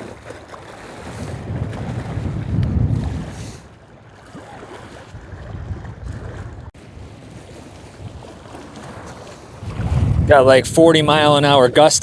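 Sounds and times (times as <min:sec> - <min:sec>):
wind buffeting microphone: 0:00.9 - 0:12.0.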